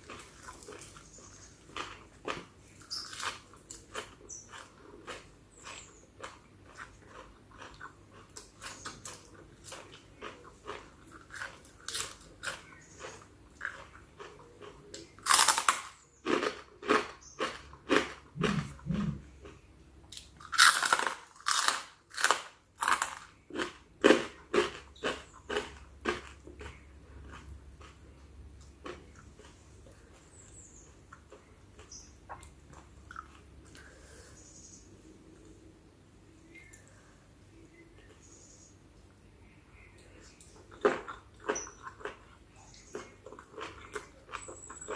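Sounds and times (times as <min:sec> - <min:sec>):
chewing and crunching: 0:00.0 - 0:34.1, 0:39.8 - 0:44.9.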